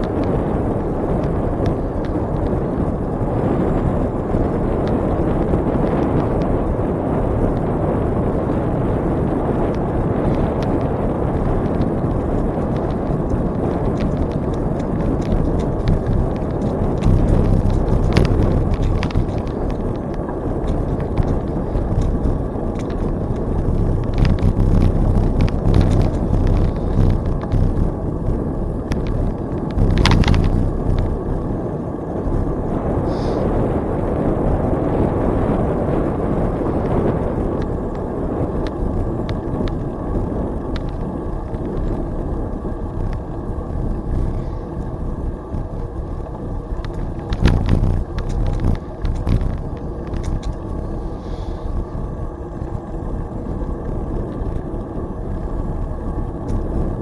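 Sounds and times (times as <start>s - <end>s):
bicycle clicks and rattles: 0.0s - 57.0s
bicycle tyre noise: 0.0s - 57.0s
wind rumble on microphone: 0.0s - 57.0s.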